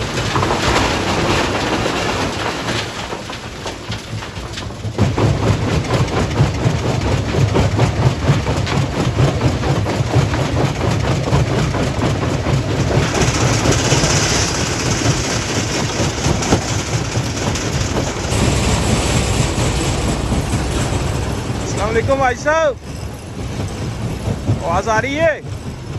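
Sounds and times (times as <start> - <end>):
heavy engine low hum: 0.0 - 25.9
rock and steel clattering: 0.0 - 25.9.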